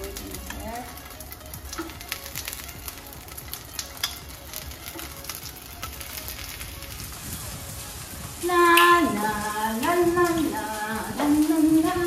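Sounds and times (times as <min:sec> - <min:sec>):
sausages sizzling in a frying pan: 0:00.0 - 0:12.0.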